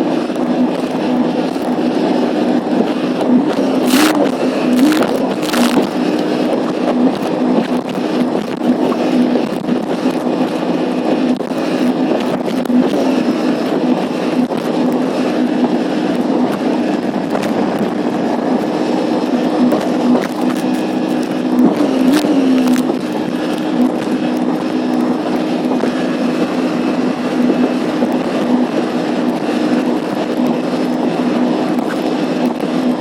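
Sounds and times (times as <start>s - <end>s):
jet ski engine running: 0.0s - 33.0s
rushing water: 0.0s - 33.0s
wind noise: 0.0s - 33.0s.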